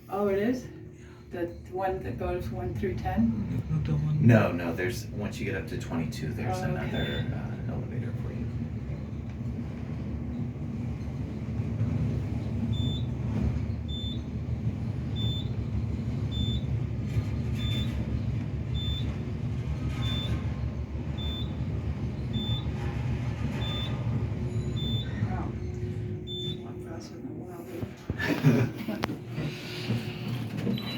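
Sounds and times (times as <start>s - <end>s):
elevator machinery rumble: 0.0s - 30.9s.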